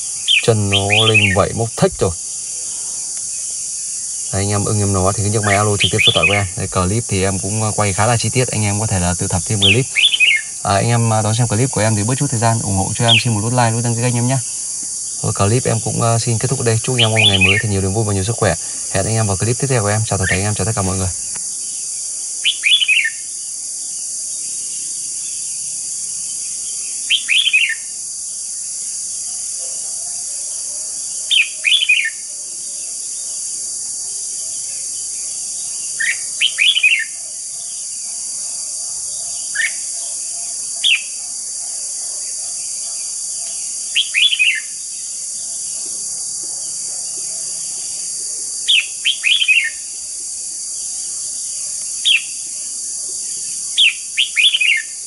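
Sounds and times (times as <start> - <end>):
steady high hiss: 0.0 - 29.6, 30.9 - 55.0
bird singing: 0.0 - 55.0.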